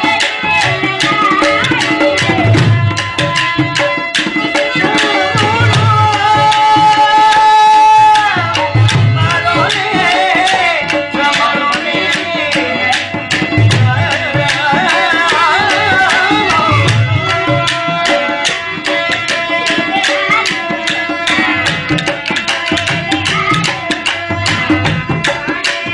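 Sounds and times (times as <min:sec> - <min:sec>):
hand drum rhythm: 0:00.0 - 0:25.9.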